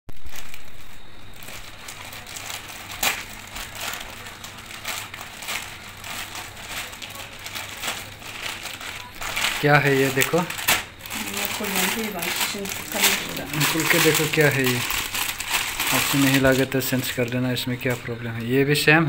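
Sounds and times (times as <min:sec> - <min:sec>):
plastic mailer bag crinkling: 0:00.1 - 0:18.7.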